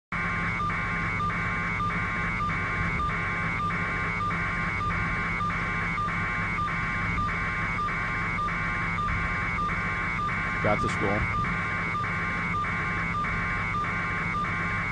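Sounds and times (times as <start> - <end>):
low hum: 0.1 - 14.9.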